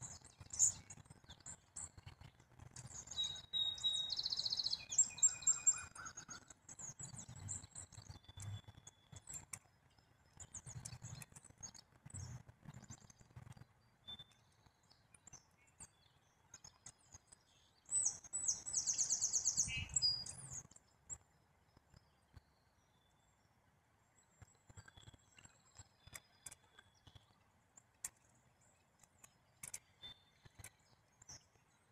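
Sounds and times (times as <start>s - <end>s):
songbirds chirping: 0.0s - 31.9s.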